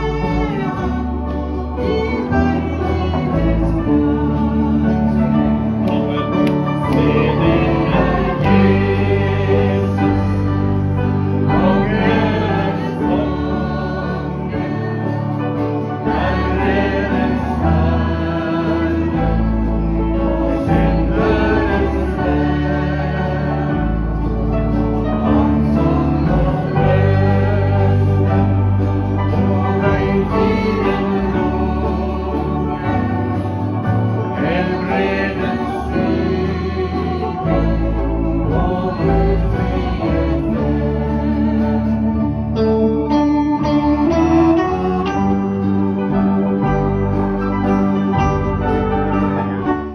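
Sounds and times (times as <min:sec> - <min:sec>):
accordion: 0:00.0 - 0:49.9
acoustic guitar: 0:00.0 - 0:49.9
electric guitar: 0:00.0 - 0:49.9
harmony voices: 0:00.0 - 0:49.9.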